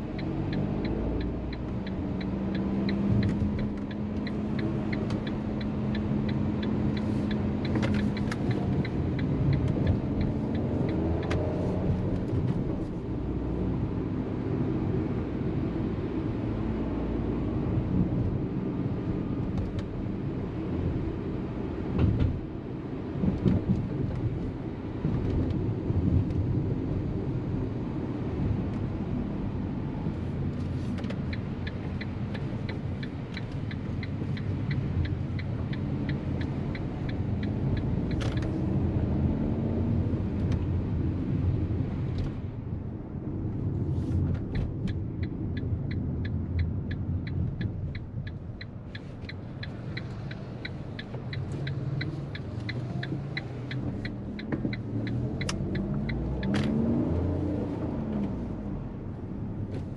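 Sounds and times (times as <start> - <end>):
car engine and road rumble: 0.0 - 59.9
turn signal ticking: 0.0 - 59.9.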